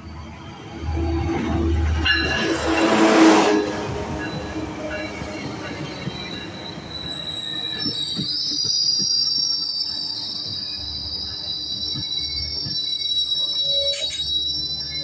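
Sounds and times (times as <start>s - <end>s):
train cars rolling past: 0.0s - 15.0s
high-pitched brake squeal: 1.8s - 15.0s.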